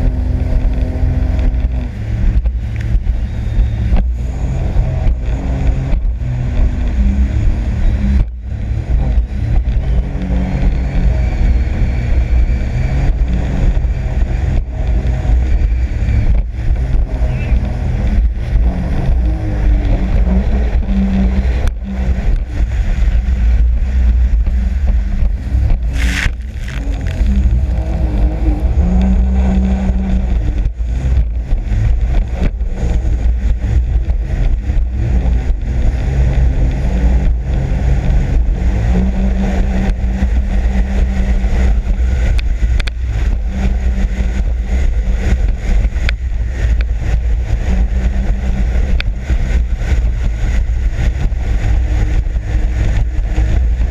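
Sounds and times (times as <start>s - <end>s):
jet ski engine running: 0.0s - 53.9s
wind rumble on microphone: 0.0s - 53.9s.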